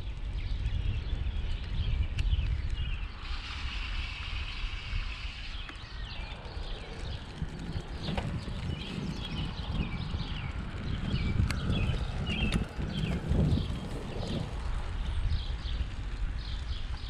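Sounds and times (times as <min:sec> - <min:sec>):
wind rumbling on microphone: 0:00.0 - 0:17.0
birds chirping: 0:00.1 - 0:17.0.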